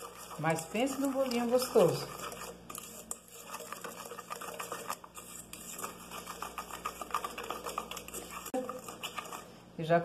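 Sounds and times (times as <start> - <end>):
utensil beating in metal pot: 0.0 - 9.6.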